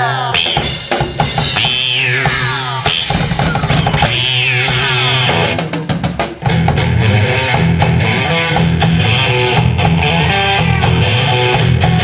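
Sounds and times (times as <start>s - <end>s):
drums steady beat: 0.0s - 12.0s
electric guitar chords: 0.0s - 12.0s
drum fill: 0.4s - 12.0s.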